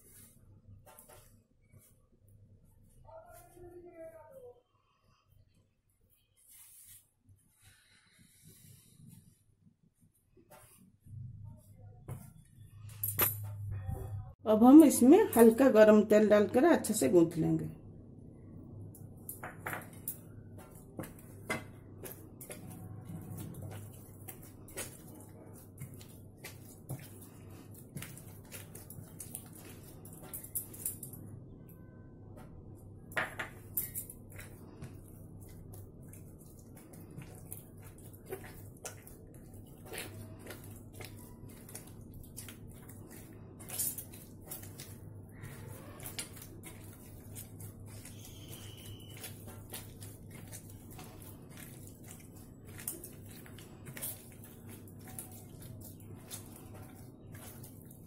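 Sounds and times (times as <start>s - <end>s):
hands kneading dough: 0.0s - 4.5s, 5.1s - 58.0s
low steady hum: 0.0s - 58.0s.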